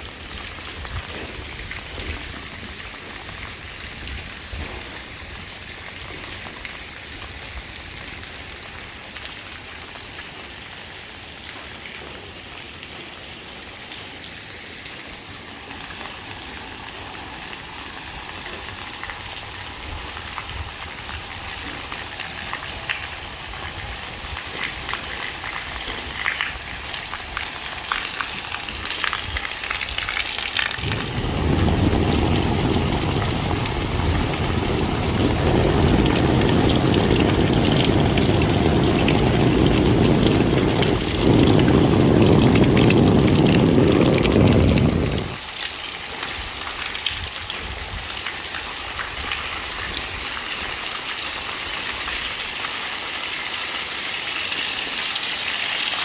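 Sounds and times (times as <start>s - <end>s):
rain falling: 0.0s - 56.0s
rush of pouring water: 0.0s - 56.0s.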